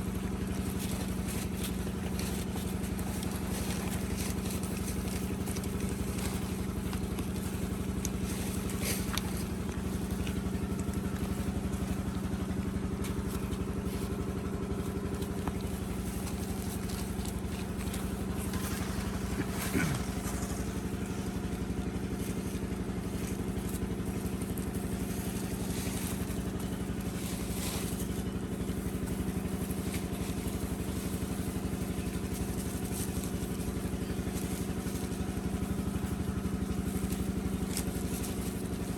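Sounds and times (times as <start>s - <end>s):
light clicks and crunches: 0.0s - 38.9s
mechanical engine drone: 0.0s - 38.9s.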